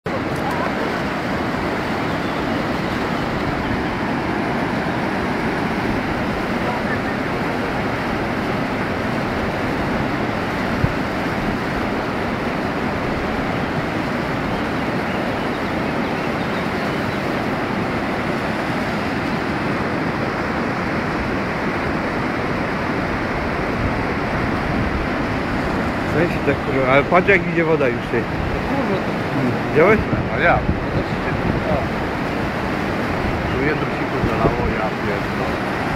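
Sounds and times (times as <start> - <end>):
river rushing: 0.1 - 35.9.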